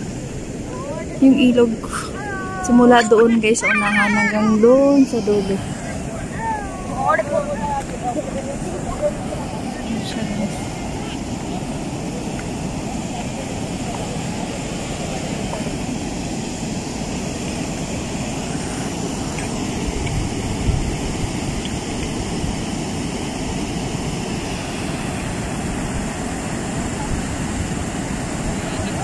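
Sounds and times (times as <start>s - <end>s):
water rushing over a weir: 0.0s - 29.0s
wind rumbling on microphone: 0.0s - 29.0s.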